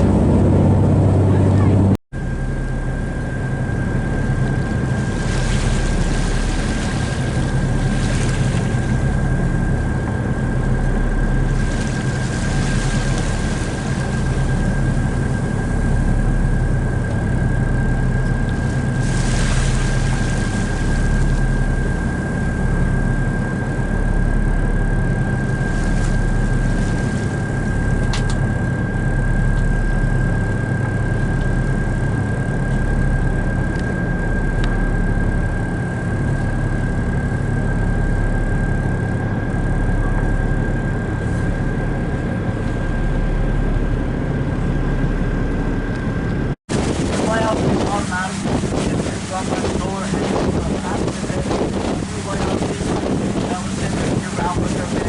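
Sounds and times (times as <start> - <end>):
boat engine droning: 0.0 - 55.0
thin high whine: 0.0 - 55.0.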